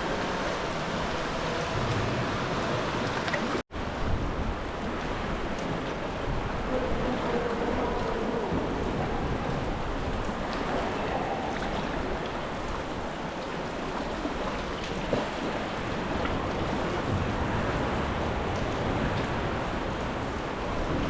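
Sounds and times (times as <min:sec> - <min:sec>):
water splashing around kayak: 0:00.0 - 0:21.0.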